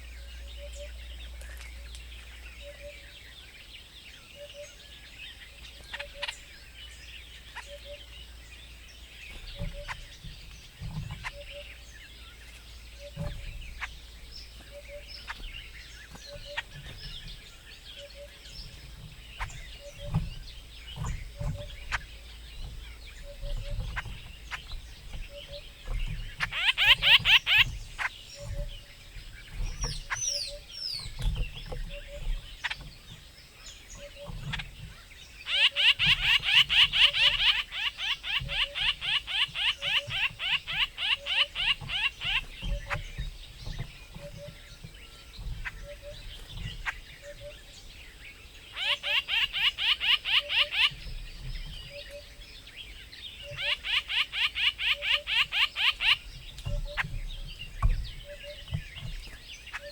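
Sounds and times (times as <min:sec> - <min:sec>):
birds chirping: 0:00.0 - 0:59.9
soft low thumps: 0:05.8 - 0:48.4, 0:50.8 - 0:53.8, 0:56.0 - 0:59.9.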